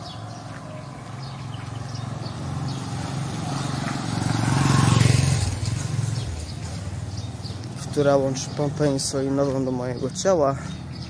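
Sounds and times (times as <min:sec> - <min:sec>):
motorbike passing by: 0:00.0 - 0:11.0.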